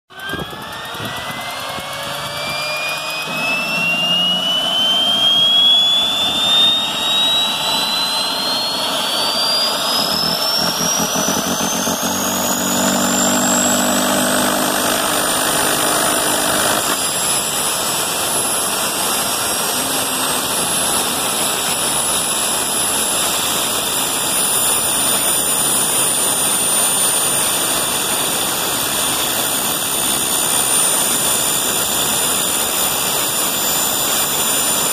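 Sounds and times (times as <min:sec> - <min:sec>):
turbine engine whine: 0:00.1 - 0:34.9.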